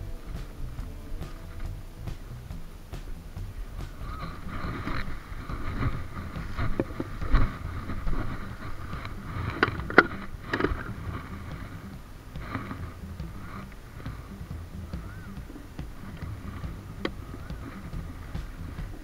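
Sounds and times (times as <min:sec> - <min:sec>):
rustling in long grass: 0:00.0 - 0:19.0.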